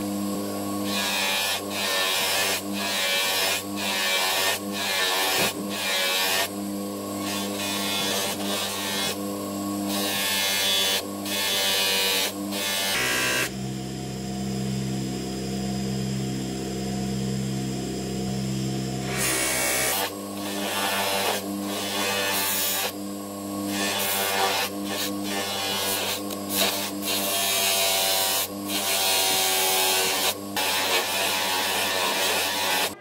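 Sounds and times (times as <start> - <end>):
polishing motor humming: 0.0 - 33.0.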